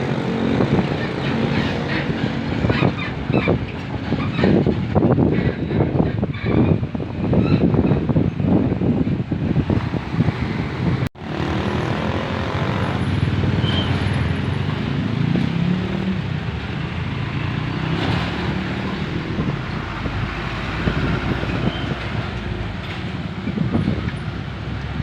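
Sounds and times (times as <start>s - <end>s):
road and wind noise: 0.0s - 25.0s.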